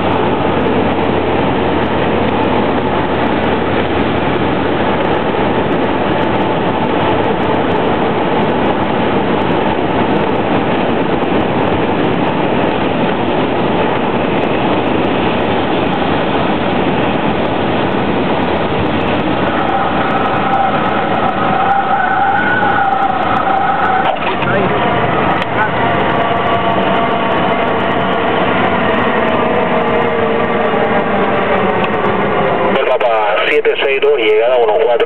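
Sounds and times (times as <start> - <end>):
airplane engine in cockpit: 0.0 - 35.0.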